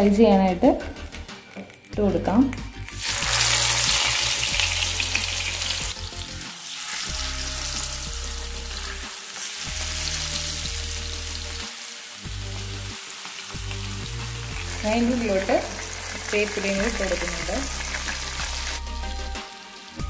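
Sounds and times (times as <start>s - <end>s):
fish sizzling in hot oil: 0.8s - 2.0s, 2.7s - 20.0s.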